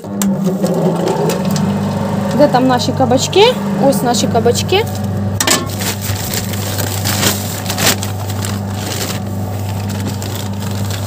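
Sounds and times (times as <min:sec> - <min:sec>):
feed chopper motor hum: 0:00.0 - 0:11.0.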